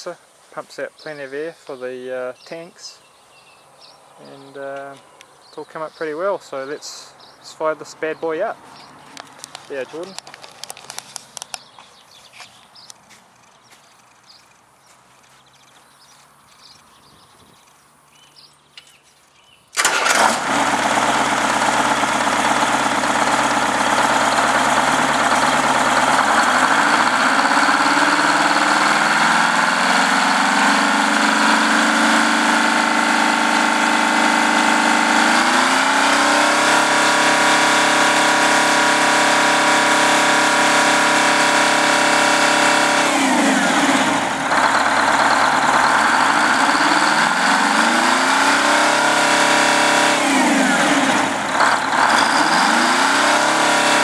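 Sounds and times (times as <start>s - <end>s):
diesel engine starting and running: 0.0s - 15.6s, 19.7s - 54.0s.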